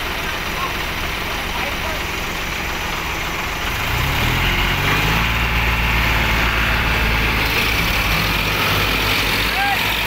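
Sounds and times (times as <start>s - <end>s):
tractor diesel engine revving: 0.0s - 10.0s.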